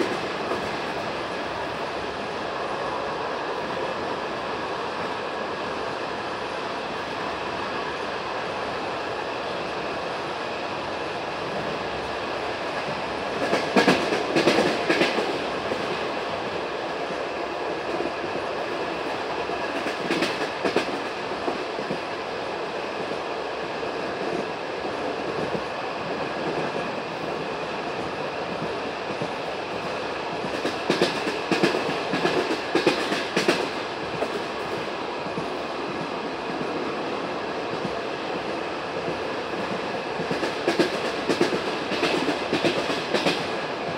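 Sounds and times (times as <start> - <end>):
train carriage rumbling on track: 0.0 - 43.9.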